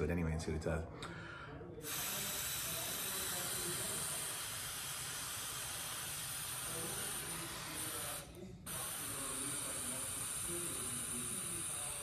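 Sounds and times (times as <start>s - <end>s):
breath blown into breathalyzer: 1.8s - 12.0s.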